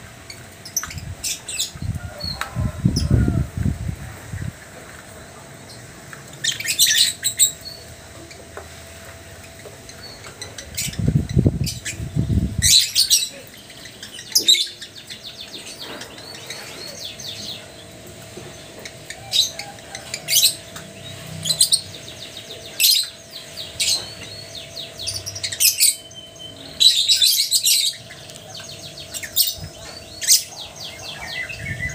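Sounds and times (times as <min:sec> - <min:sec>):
lovebirds chirping and screeching: 0:00.0 - 0:04.6, 0:05.7 - 0:31.9.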